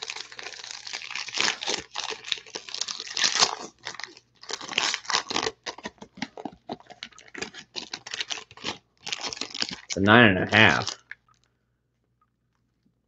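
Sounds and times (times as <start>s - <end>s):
plastic pouch tearing and crinkling: 0.0s - 10.0s, 10.6s - 11.2s.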